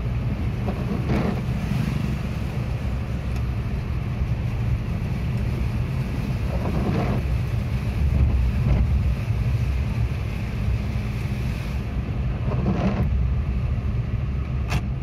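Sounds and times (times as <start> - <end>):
rain and water hissing: 0.0 - 14.4
engine and tyres rumbling: 0.0 - 15.0.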